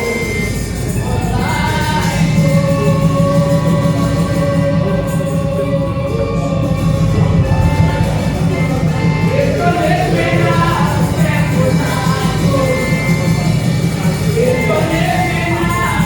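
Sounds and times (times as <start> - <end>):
church singing with instruments: 0.0 - 16.0.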